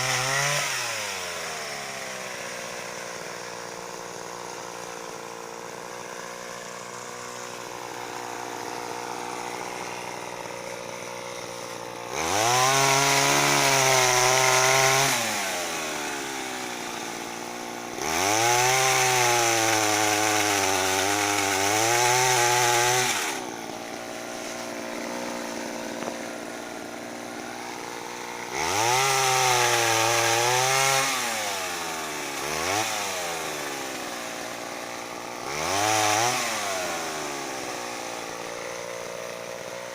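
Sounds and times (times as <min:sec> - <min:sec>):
chain cutting branches: 0:00.0 - 0:39.9
pole saw engine revving: 0:00.0 - 0:39.9.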